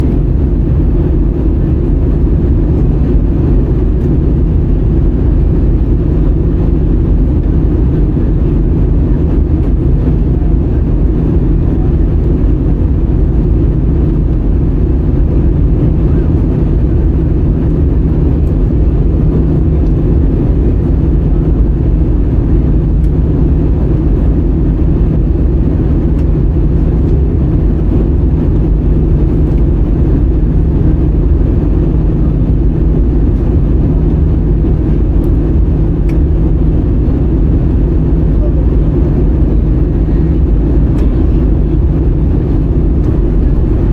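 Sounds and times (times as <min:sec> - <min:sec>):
airplane cabin engine drone: 0:00.0 - 0:43.9
faint steady hum: 0:00.0 - 0:43.9.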